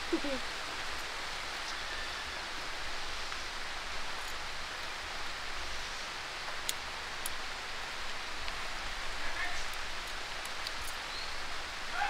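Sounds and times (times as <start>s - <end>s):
light rain hissing: 0.0s - 12.0s.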